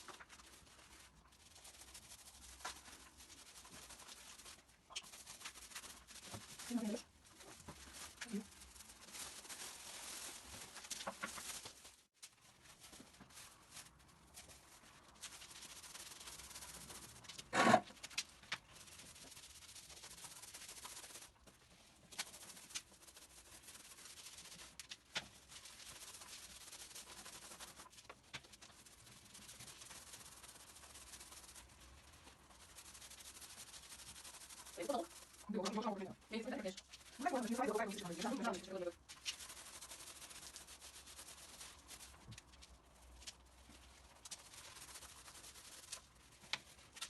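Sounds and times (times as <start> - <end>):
paint roller swishing on wall: 0.0 - 47.0.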